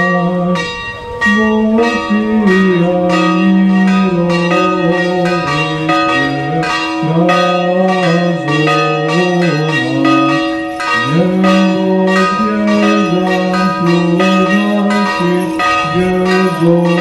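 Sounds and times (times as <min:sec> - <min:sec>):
church bells ringing: 0:00.0 - 0:17.0
man chanting prayer: 0:00.0 - 0:17.0.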